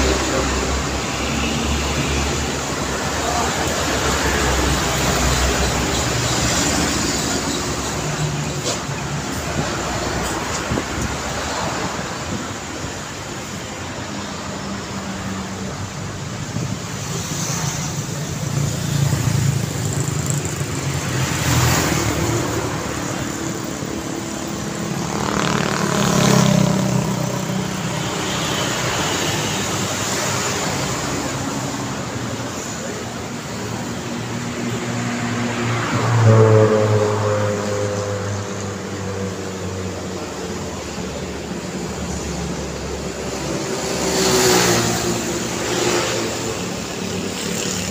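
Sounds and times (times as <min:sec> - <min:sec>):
cars passing by: 0:00.0 - 0:47.9.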